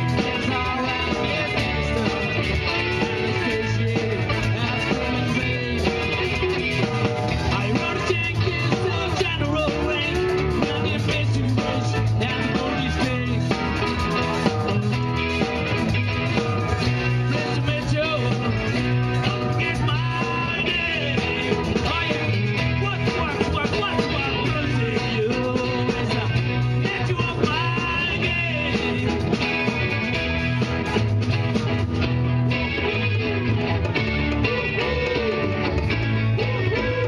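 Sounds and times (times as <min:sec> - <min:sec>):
person singing: 0:00.0 - 0:14.7, 0:16.4 - 0:30.0, 0:32.5 - 0:37.0
live rock band playing: 0:00.0 - 0:37.0.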